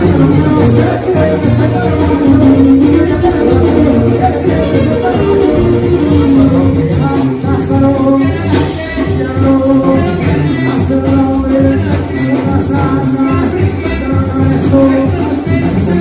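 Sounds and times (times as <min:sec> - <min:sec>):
loud live brass band music: 0:00.0 - 0:16.0.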